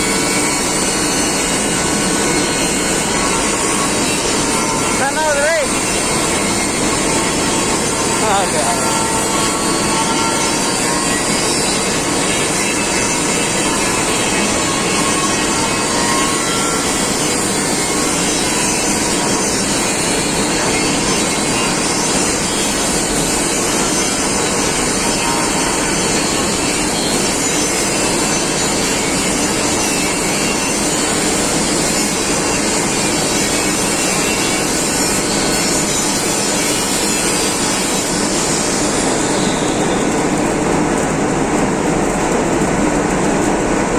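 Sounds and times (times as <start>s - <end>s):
loud steady machinery noise: 0.0s - 43.9s.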